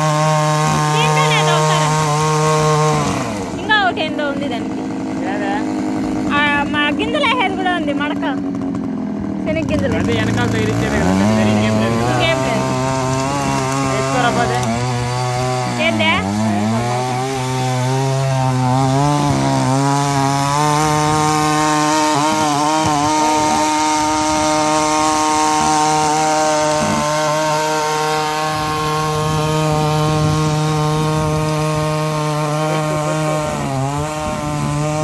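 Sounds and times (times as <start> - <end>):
small petrol engine running: 0.0 - 35.0
tiller tines digging soil: 0.0 - 35.0.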